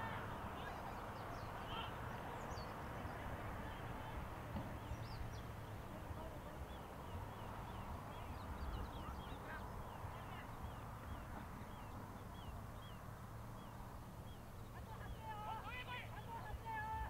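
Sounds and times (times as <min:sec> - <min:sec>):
birds chirping: 0:00.0 - 0:17.0
low wind rumble: 0:00.0 - 0:17.0.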